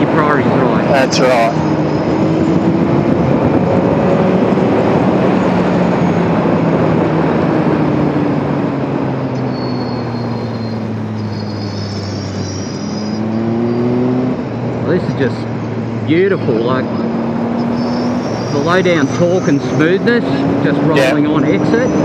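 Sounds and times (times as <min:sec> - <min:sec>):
heavy wind noise: 0:00.0 - 0:22.0
motorcycle engine: 0:00.0 - 0:22.0.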